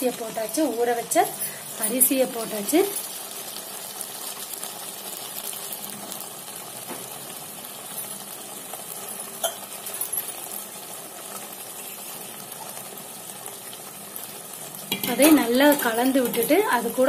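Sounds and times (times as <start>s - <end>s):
low steady sizzle: 0.0s - 17.0s.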